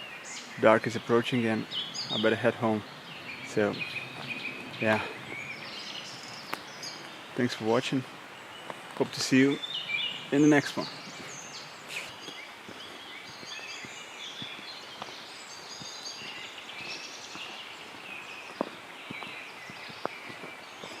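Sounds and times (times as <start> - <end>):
songbirds chirping and trilling: 0.0 - 21.0
steady outdoor hiss: 0.0 - 21.0.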